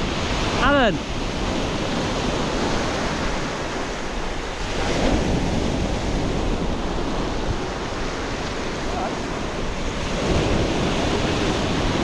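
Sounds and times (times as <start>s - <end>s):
waves washing up a pebble beach: 0.0s - 12.0s
wind buffeting the microphone: 0.0s - 12.0s.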